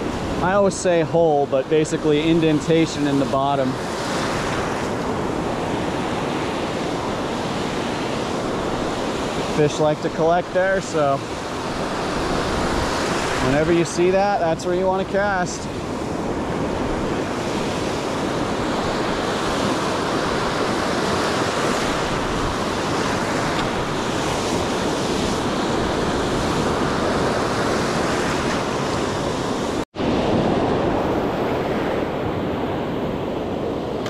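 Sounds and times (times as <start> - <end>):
surf washing onto beach: 0.0 - 34.0.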